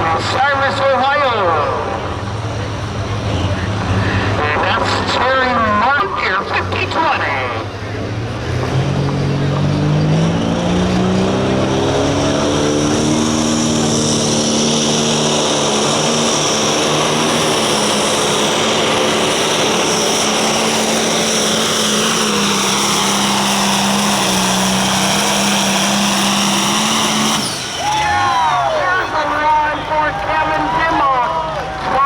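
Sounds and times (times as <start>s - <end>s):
high turbo whine: 0.0s - 32.0s
tractor diesel engine under load: 0.0s - 32.0s.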